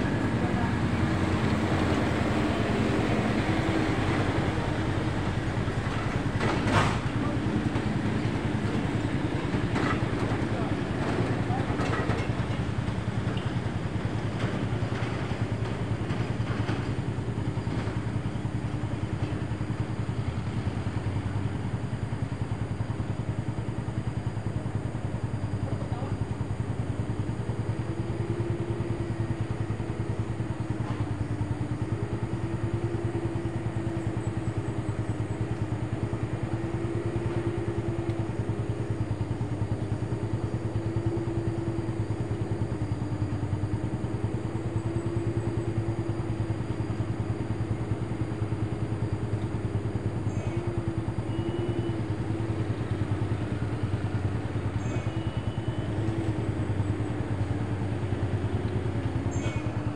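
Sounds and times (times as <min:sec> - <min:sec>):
traffic engine drone: 0:00.0 - 0:59.9.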